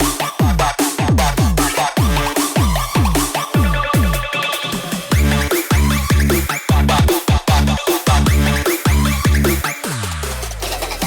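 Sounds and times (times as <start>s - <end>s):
electronic breakbeat dance music: 0.0s - 11.0s.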